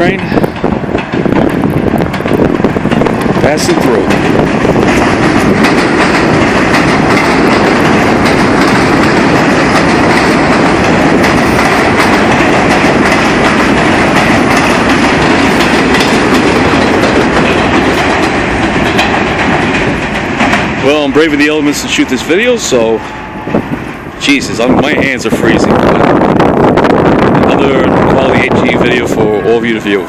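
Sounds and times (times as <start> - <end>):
subway train wheels clattering: 0.0 - 30.0.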